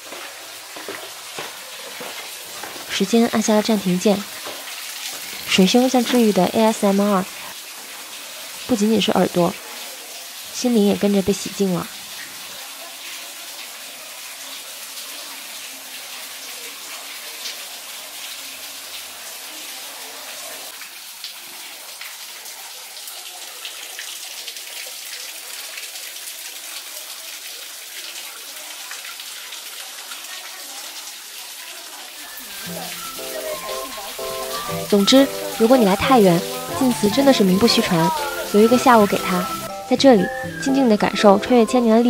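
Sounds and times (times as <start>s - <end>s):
water splashing into pools: 0.0s - 42.0s.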